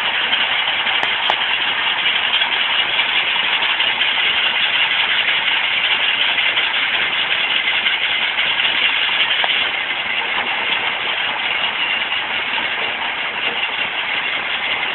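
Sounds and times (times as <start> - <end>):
stone crusher machine running: 0.0 - 14.9.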